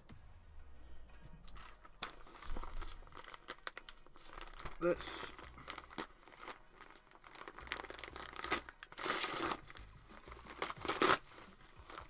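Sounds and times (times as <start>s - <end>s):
packaging tearing and crinkling: 1.5s - 12.0s.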